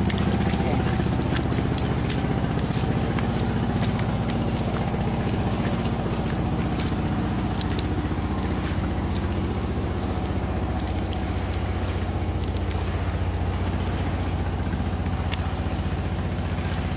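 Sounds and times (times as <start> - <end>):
small engine running: 0.0 - 16.9.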